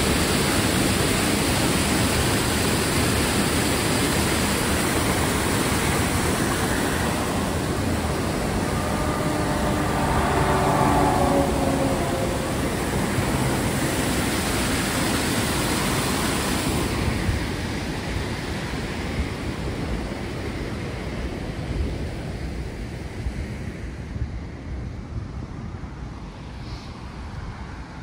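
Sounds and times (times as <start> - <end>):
car tyre noise on road: 0.0 - 28.0
wind buffeting microphone: 0.0 - 28.0.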